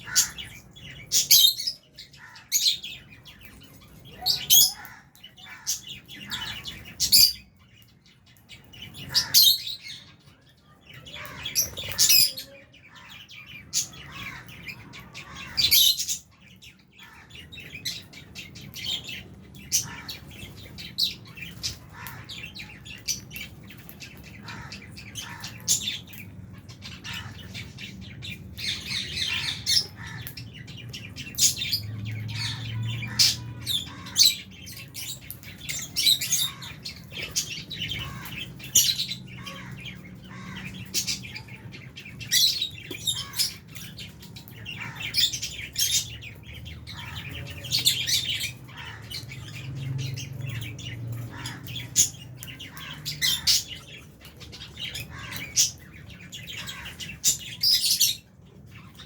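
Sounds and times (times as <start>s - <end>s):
birds chirping and squawking: 0.0s - 59.0s.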